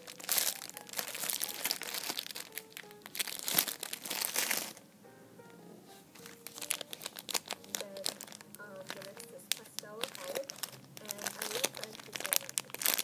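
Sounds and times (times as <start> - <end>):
plastic bags crinkling: 0.0 - 4.8, 6.1 - 13.0
quiet music: 0.0 - 13.0.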